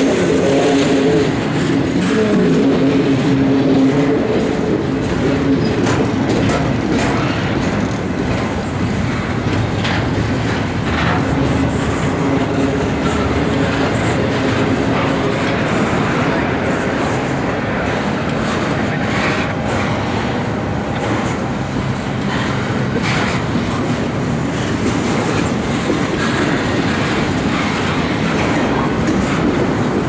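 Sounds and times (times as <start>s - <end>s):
freight train rumbling past: 0.0s - 30.0s
steady humming tones: 0.0s - 30.0s
wheels clacking over rail joints: 0.0s - 30.0s.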